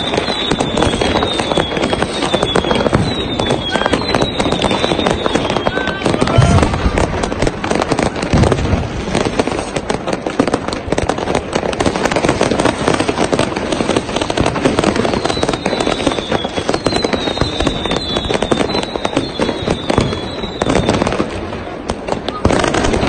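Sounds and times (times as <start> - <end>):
deep firework booms: 0.0 - 23.0
firecrackers crackling and popping: 0.0 - 23.0.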